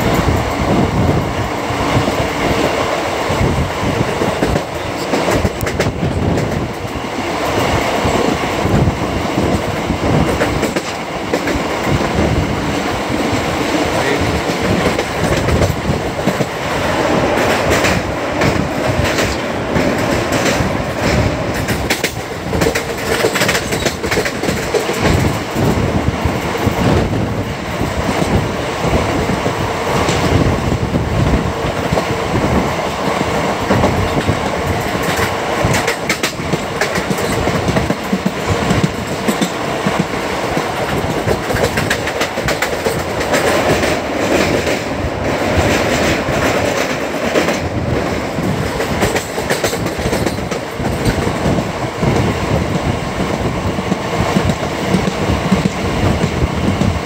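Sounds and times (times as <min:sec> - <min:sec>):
train wheel rumble: 0:00.0 - 0:57.0
wheels clacking over rail joints: 0:04.0 - 0:25.8, 0:31.7 - 0:57.0.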